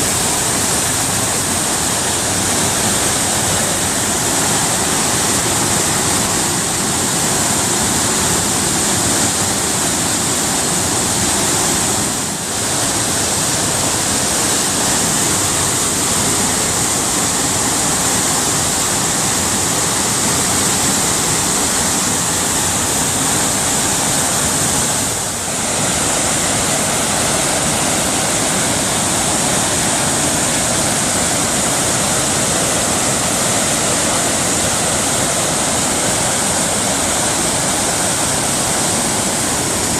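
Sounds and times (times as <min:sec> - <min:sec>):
rushing white water: 0:00.0 - 0:39.9.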